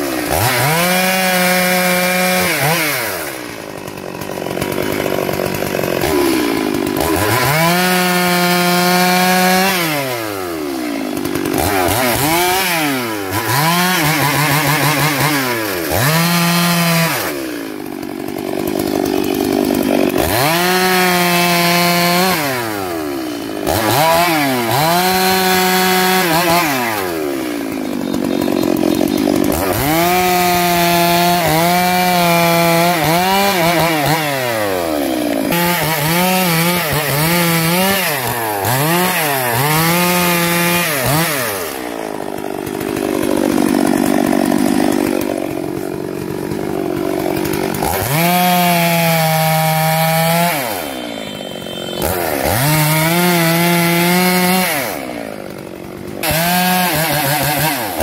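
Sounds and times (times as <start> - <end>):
chainsaw cutting logs: 0.0 - 58.0.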